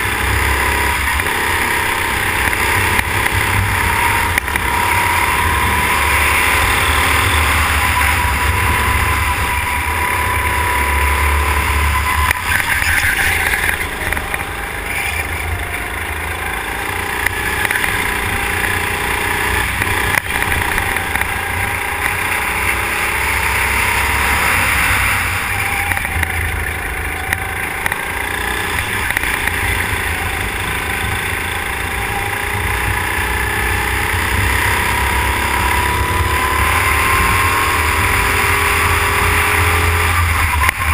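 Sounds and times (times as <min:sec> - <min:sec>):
go-kart engine running hard: 0:00.0 - 0:40.9.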